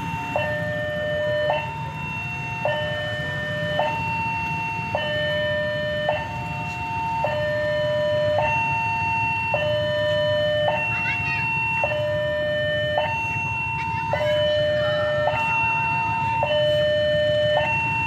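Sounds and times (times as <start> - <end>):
two-tone warning siren: 0.0 - 18.0.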